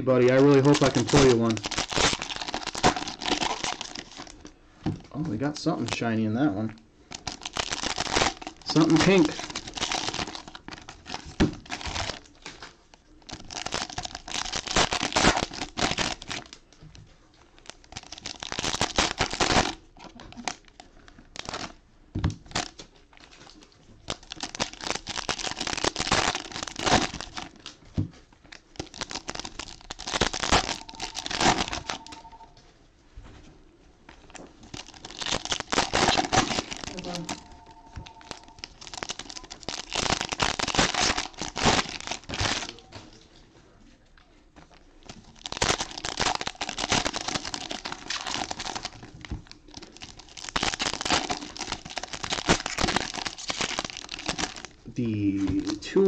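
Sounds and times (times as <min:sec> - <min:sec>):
foil wrappers crinkling and tearing: 0:00.0 - 0:04.5, 0:05.2 - 0:32.5, 0:34.1 - 0:43.2, 0:44.6 - 0:56.0.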